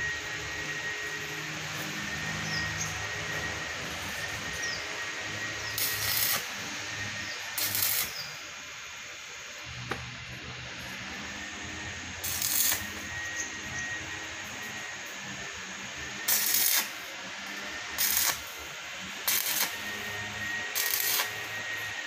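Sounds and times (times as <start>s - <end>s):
steady hum and hiss: 0.0s - 22.0s
welding arc crackling sizzle: 0.0s - 22.0s.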